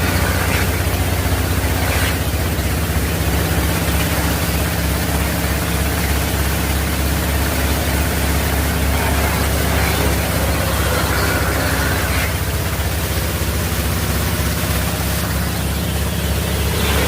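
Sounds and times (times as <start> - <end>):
wood chipper running: 0.0 - 17.0.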